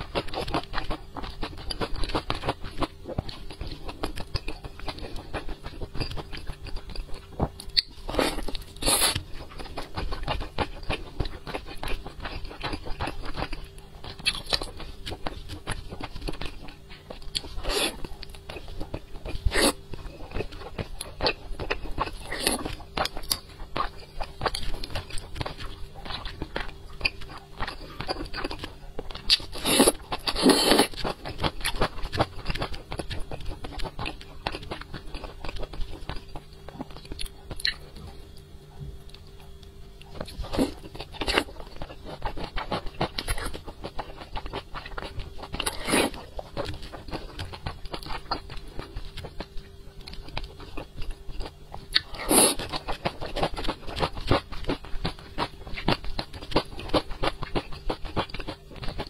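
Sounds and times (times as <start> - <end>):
person chewing and biting: 0.0 - 59.0.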